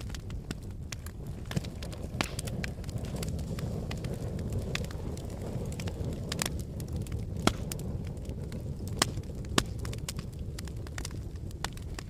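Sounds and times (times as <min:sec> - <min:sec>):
fire burning with crackles: 0:00.0 - 0:12.0
sharp crackles and pops: 0:00.0 - 0:12.0.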